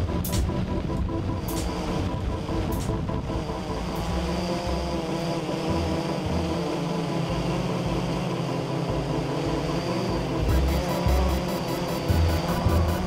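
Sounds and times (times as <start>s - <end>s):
drone propellers whirring: 0.0s - 13.0s.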